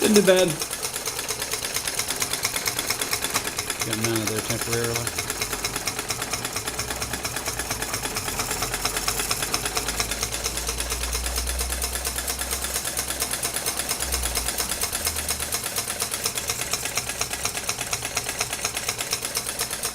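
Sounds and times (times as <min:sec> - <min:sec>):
model engine running fast beat: 0:00.0 - 0:19.9.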